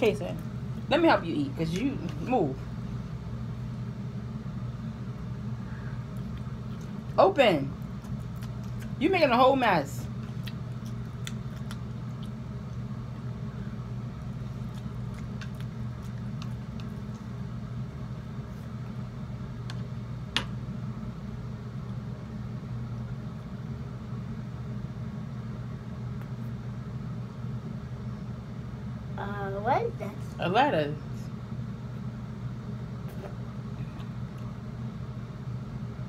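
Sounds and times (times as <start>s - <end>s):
low room hum: 0.0s - 36.0s.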